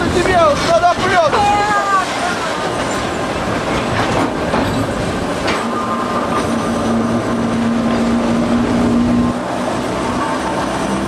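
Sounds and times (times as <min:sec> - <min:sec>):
wheels rolling on rails: 0:00.0 - 0:11.0
diesel engine running: 0:01.9 - 0:11.0.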